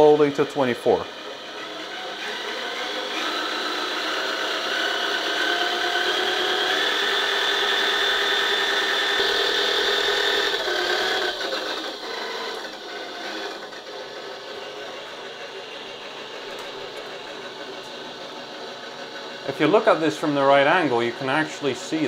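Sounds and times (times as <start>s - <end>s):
small motor and gears whining: 0.0s - 22.0s.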